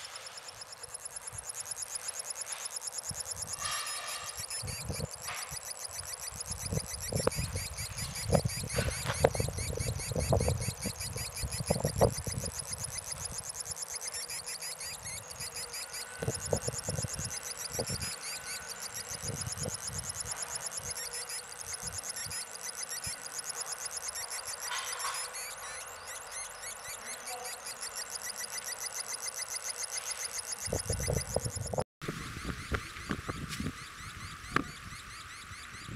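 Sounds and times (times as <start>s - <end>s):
synth chirping: 0.0s - 35.9s.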